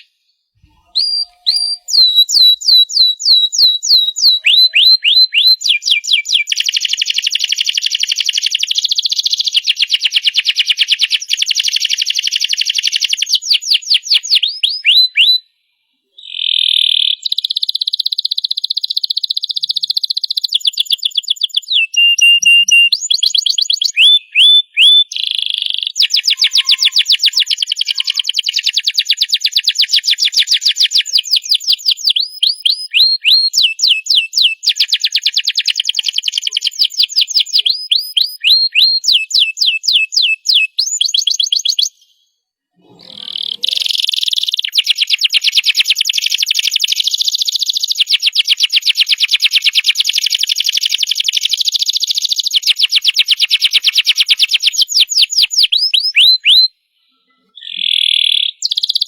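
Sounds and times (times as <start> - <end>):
canary singing trills: 0.0 - 9.6, 16.2 - 42.2, 42.8 - 59.0.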